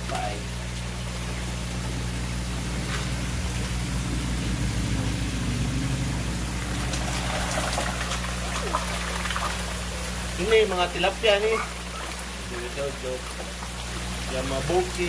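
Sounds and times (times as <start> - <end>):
fish splashing: 0.0 - 15.0
low steady hum: 0.0 - 15.0
water pouring into pond: 0.1 - 15.0.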